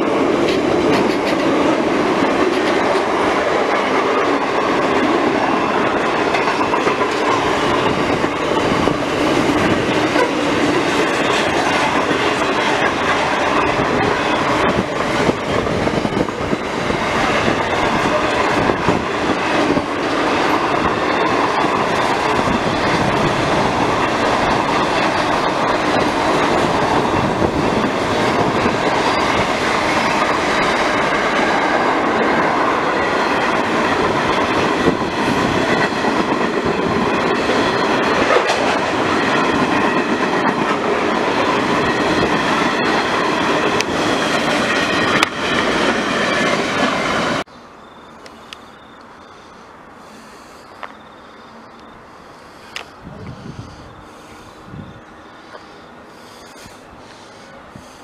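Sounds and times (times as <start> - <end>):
wheels clicking over rail joints: 0.0 - 47.5
freight train wheels rushing on rails: 0.0 - 58.0.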